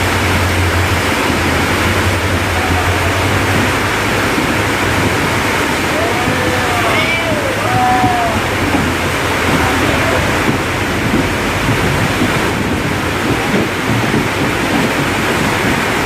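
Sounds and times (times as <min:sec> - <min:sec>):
train wheels rumbling on track: 0:00.0 - 0:16.0
wind rushing past microphone: 0:00.0 - 0:16.0.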